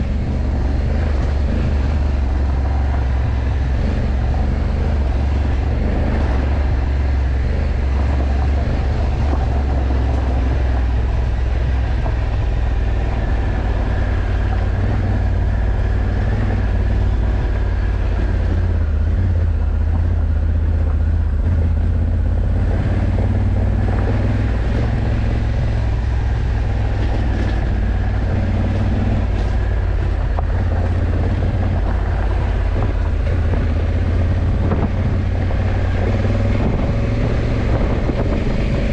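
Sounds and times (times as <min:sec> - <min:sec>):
motorcycle engine cruising: 0:00.0 - 0:38.9
road noise: 0:00.0 - 0:38.9
wind noise: 0:00.0 - 0:38.9.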